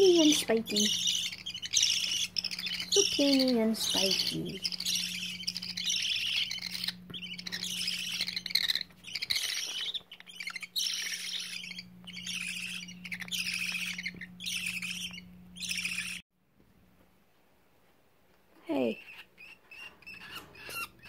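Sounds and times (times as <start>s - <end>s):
baby budgies screeching: 0.0s - 16.2s, 18.7s - 21.0s
steady low hum: 0.0s - 18.6s.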